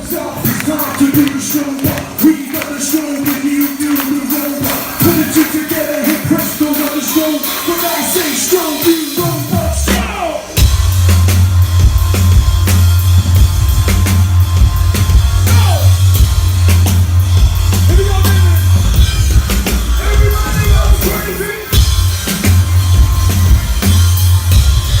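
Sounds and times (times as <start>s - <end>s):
live dance-pop music: 0.0s - 25.0s.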